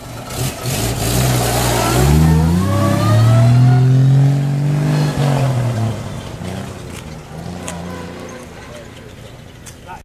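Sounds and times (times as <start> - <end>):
rally car engine accelerating: 0.0 - 9.2.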